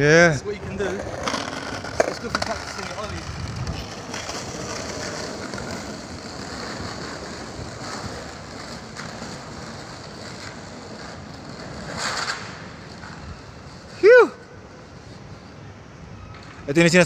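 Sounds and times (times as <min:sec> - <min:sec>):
skateboard wheels rolling on paving: 0:00.0 - 0:17.0.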